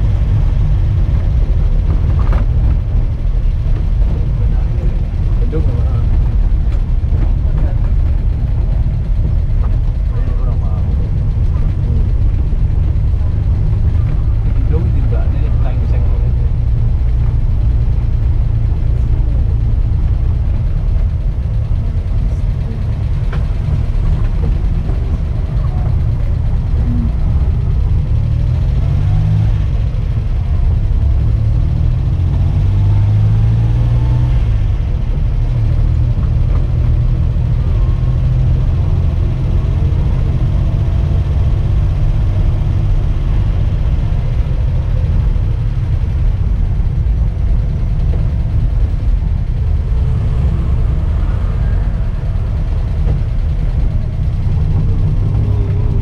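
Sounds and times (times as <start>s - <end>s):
van engine running inside cab: 0.0s - 56.0s.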